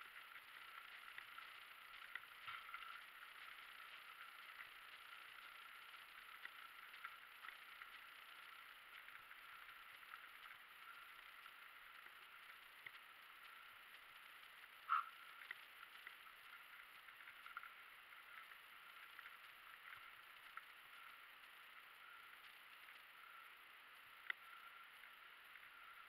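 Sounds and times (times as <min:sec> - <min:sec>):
faint steady whine: 0:00.0 - 0:26.0
light ticks and rattles: 0:00.0 - 0:26.0.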